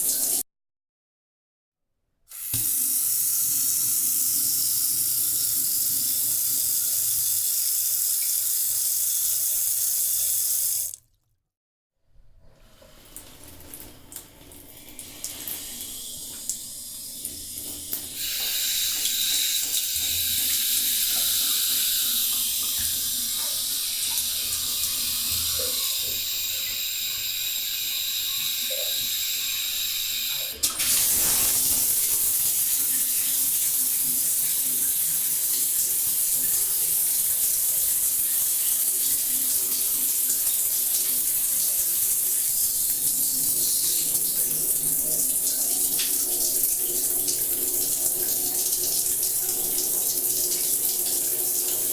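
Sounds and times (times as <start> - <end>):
water running from bathtub tap: 0.0 - 0.4, 2.3 - 11.1, 12.6 - 51.9.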